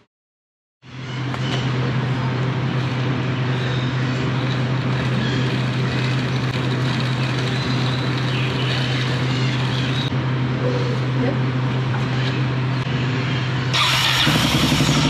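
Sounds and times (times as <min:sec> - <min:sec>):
motorcycle engine hum: 0:01.0 - 0:15.0.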